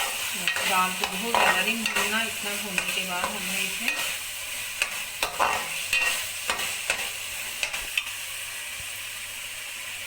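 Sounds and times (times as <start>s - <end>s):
spoon scraping a pan: 0.0s - 8.1s
food sizzling in oil: 0.0s - 10.0s.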